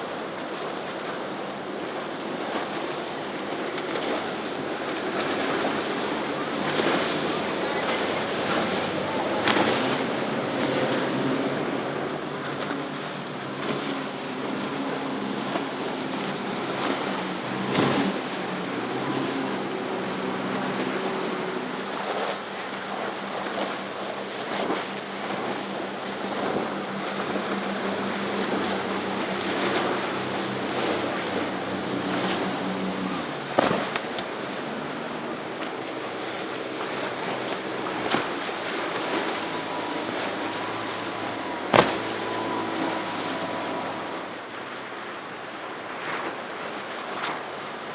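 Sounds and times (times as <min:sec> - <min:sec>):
outboard boat engines droning: 0:00.0 - 0:47.9
waves: 0:00.0 - 0:47.9.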